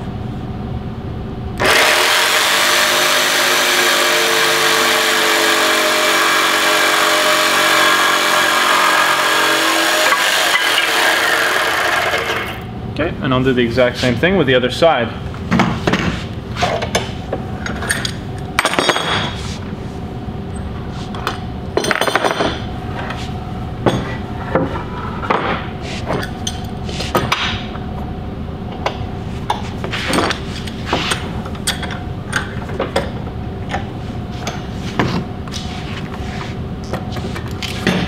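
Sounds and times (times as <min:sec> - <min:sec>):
faint background hum: 0:00.0 - 0:01.6, 0:04.2 - 0:38.0.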